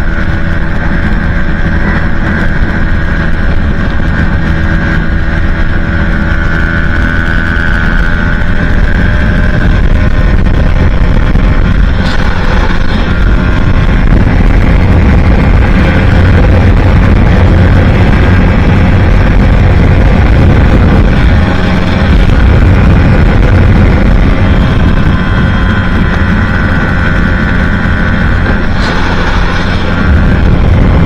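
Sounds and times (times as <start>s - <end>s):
motorcycle engine at high revs: 0.0s - 31.0s
wind noise on microphone: 0.0s - 31.0s.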